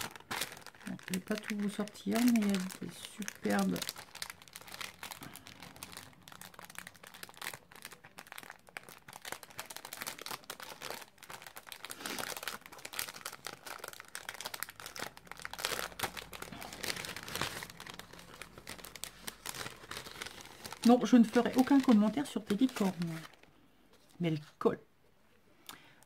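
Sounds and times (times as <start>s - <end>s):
plastic bag and paper crinkling: 0.0s - 24.6s.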